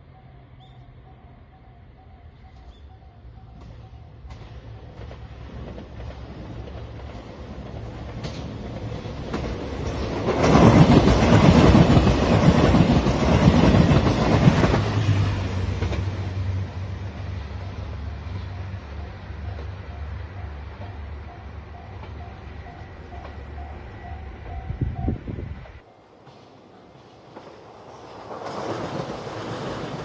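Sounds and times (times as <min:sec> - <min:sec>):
diesel train passing: 0:00.0 - 0:30.0.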